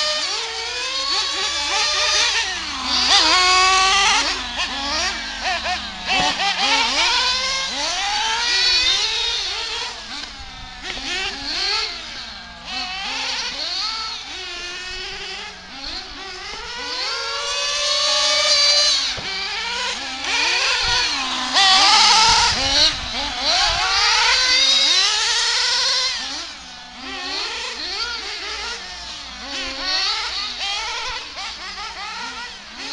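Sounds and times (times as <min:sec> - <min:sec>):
rc buggy engines revving: 0:00.0 - 0:32.9.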